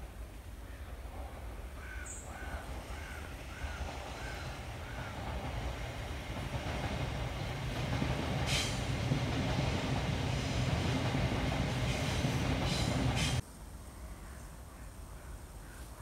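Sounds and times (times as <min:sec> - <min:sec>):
passing train rumble: 0:00.0 - 0:13.4.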